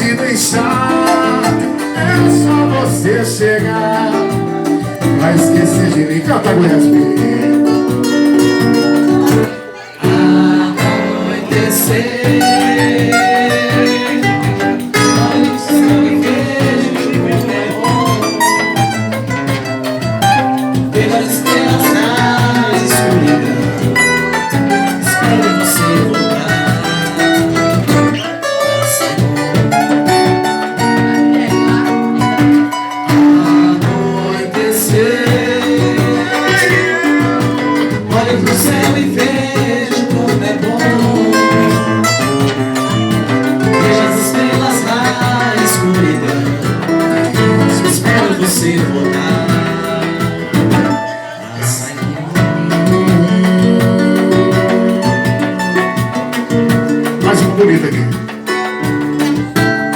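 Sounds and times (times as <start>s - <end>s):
live band pop ballad: 0.0s - 59.9s
person singing: 0.0s - 59.9s.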